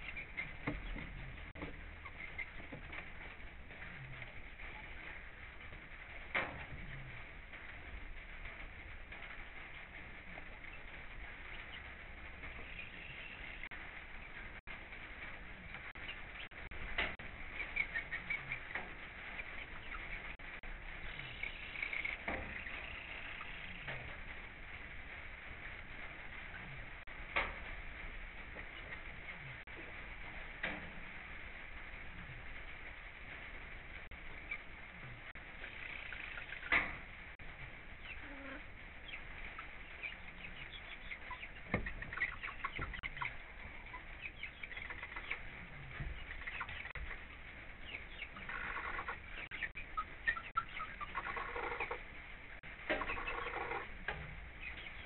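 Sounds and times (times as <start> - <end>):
hens chirping softly: 0.0 - 55.0
rain pattering on coop: 0.0 - 55.0.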